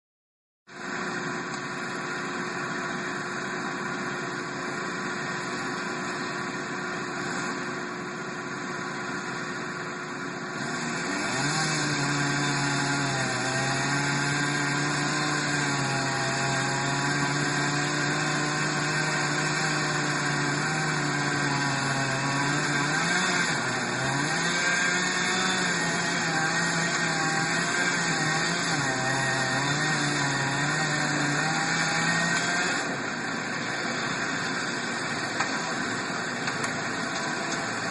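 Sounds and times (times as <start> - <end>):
engine running: 0.7 - 37.9.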